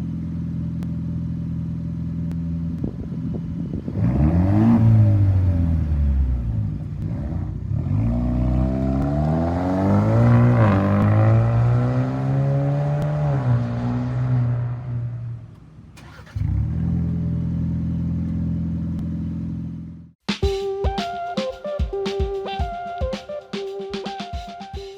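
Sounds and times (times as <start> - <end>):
car engine revving and idling: 0.0 - 20.2.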